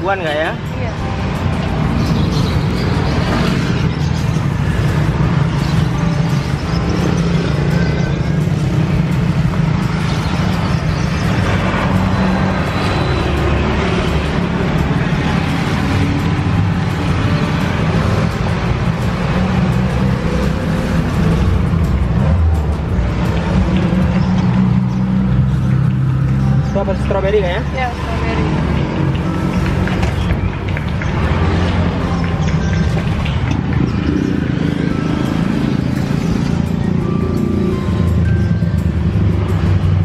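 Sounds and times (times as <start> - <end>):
background music: 0.0 - 40.0
road traffic rumble: 0.0 - 40.0.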